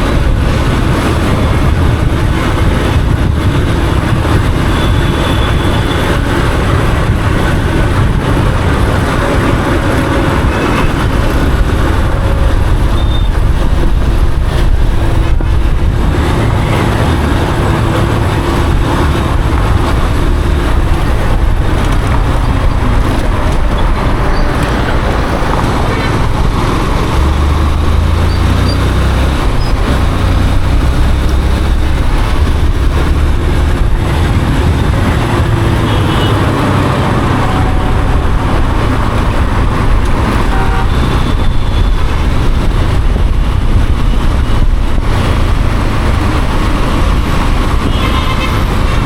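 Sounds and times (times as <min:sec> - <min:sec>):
motorcycle engine: 0:00.0 - 0:49.0
road noise: 0:00.0 - 0:49.0
wind rush on microphone: 0:00.0 - 0:49.0.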